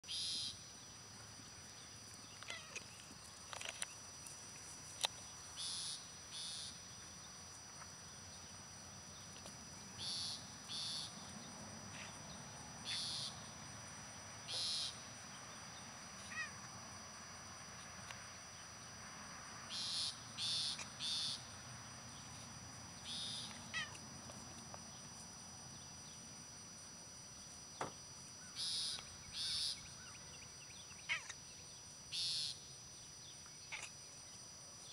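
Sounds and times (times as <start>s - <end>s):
insect calls: 0.0s - 34.9s.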